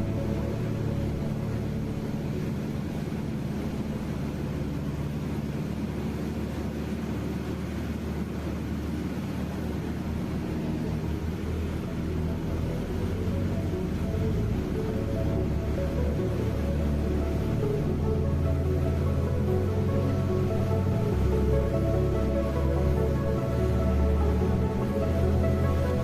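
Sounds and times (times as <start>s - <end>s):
light aircraft engine drone: 0.0s - 26.0s.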